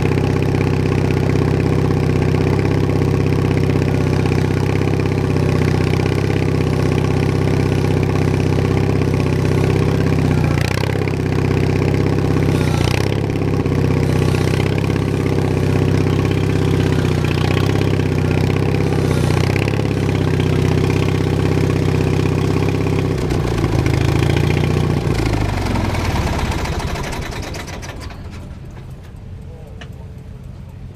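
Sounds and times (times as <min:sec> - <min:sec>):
garden tractor engine running: 0:00.0 - 0:30.9.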